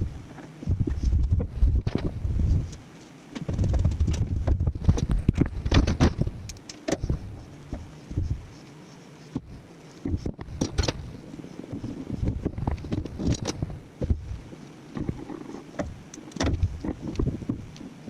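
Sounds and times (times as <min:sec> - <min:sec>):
parts clicking and rattling: 0:00.2 - 0:17.9.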